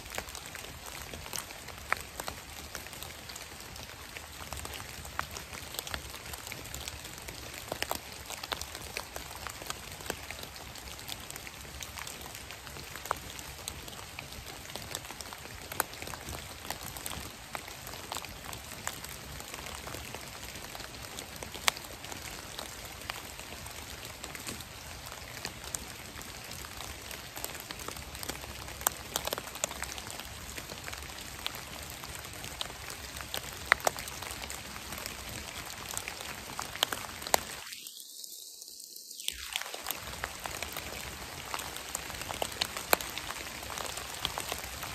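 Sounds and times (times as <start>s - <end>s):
rain falling on dead leaves: 0.0s - 44.9s.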